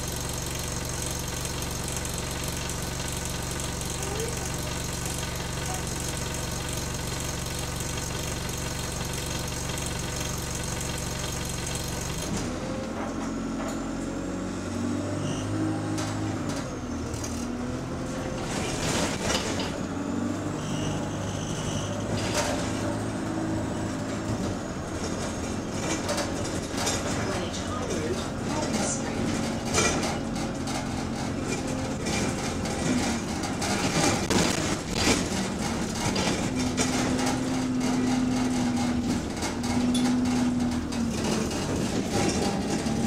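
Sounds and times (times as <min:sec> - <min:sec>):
bus body rattling: 0:00.0 - 0:13.5, 0:15.8 - 0:43.0
diesel bus engine: 0:00.0 - 0:43.0.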